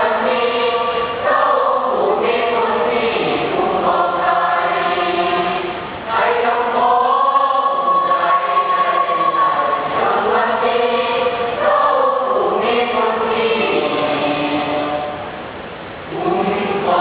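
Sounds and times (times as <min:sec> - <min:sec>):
children's choir singing: 0:00.0 - 0:15.2, 0:16.1 - 0:17.0.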